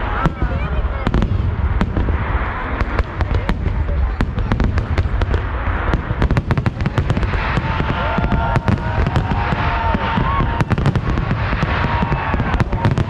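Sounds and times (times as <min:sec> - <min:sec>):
fireworks bangs and crackles: 0:00.0 - 0:13.0
steady low rumble: 0:00.0 - 0:13.0.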